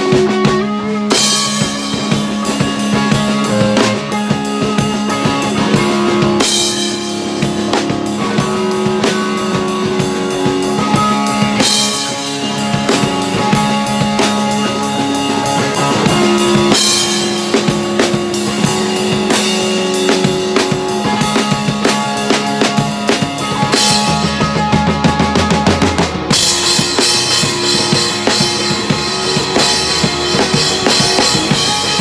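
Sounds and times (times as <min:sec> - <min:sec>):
held guitar and bass notes: 0:00.0 - 0:32.0.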